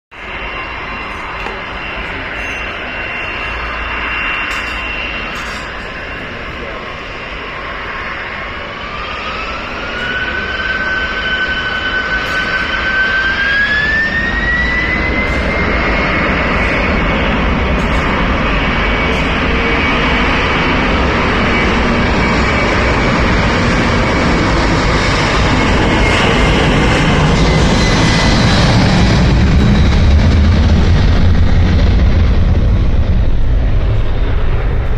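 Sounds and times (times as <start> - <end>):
jet engines spooling up: 0.2 - 34.9.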